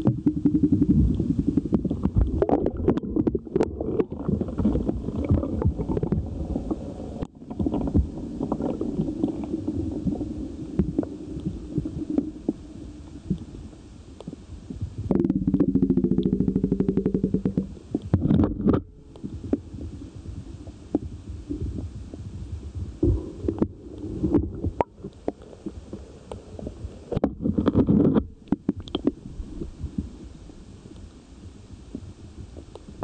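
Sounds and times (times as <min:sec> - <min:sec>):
underwater knocks and clicks: 0:00.0 - 0:31.1, 0:31.9 - 0:33.0
muffled underwater rumble: 0:00.0 - 0:33.0.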